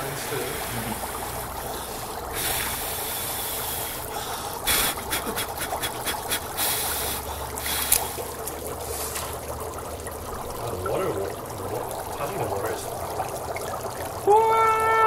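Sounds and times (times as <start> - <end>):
dry ice bubbling and hissing in water: 0.0 - 15.0
splashy pops: 0.0 - 15.0.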